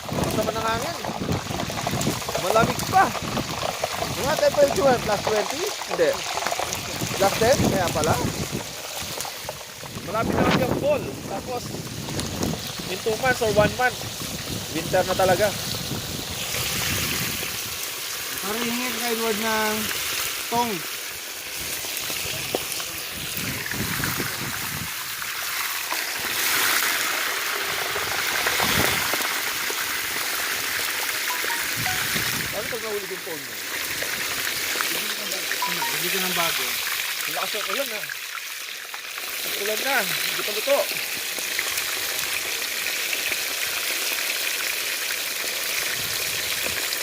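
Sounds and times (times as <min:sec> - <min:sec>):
fish frying in hot oil: 0:00.0 - 0:47.0
rain falling: 0:00.0 - 0:47.0.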